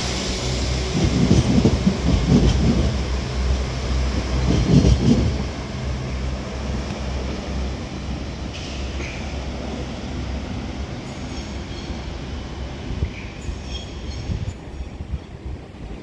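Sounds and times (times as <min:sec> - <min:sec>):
diesel train engines rumbling: 0:00.0 - 0:16.0.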